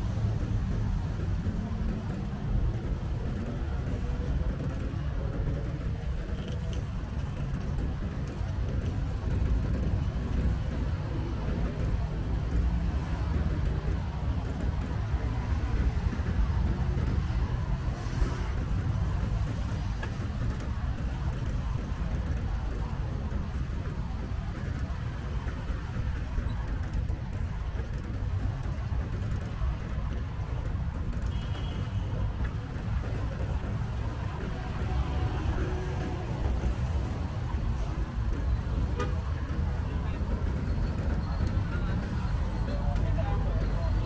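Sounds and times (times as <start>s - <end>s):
road traffic noise: 0.0s - 44.0s.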